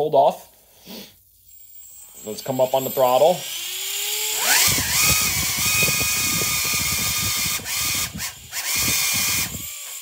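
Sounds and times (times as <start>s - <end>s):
tail rotor motor whine: 1.5s - 10.0s.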